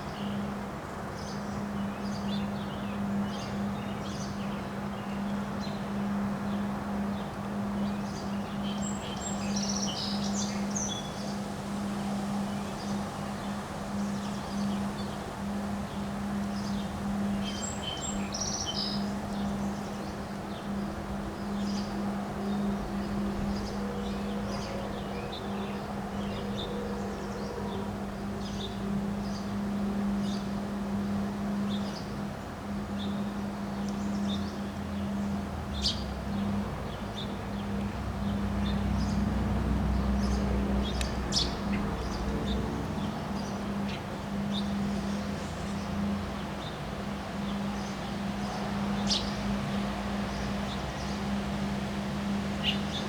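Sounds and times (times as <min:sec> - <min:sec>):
low rumble of wind gust: 0:00.0 - 0:53.0
steady low hum: 0:00.0 - 0:53.0
birds chirping: 0:07.8 - 0:53.0.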